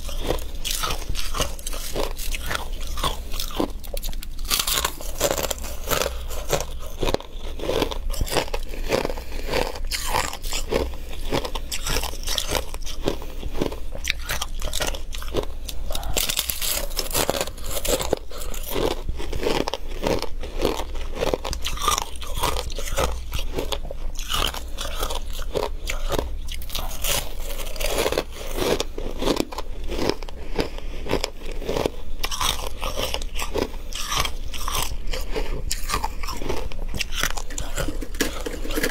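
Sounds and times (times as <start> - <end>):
crunchy chewing of frost: 0.0 - 38.9.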